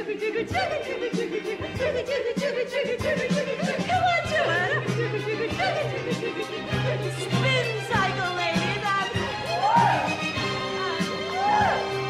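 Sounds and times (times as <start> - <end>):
upbeat music with steady beat: 0.0 - 12.0.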